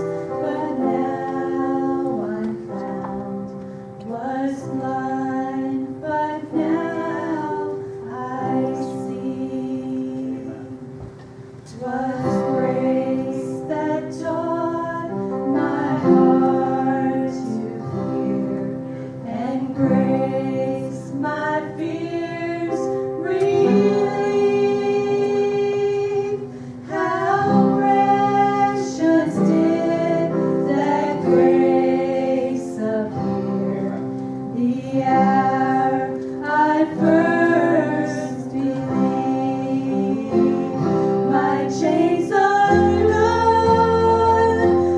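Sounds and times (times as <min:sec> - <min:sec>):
woman singing gospel: 0:00.0 - 0:10.8, 0:11.7 - 0:44.9.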